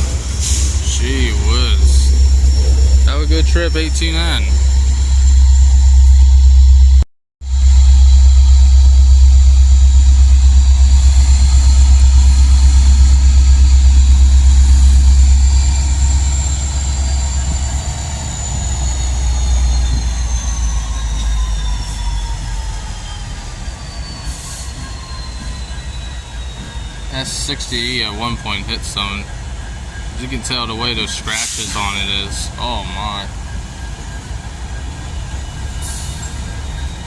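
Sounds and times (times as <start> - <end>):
high wheel squeal: 0.0 - 6.7, 9.5 - 37.0
freight train rumble: 0.0 - 37.0.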